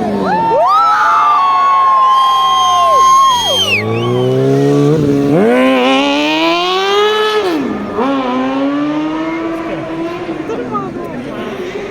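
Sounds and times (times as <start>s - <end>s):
motorcycle engine revving: 2.2s - 11.9s.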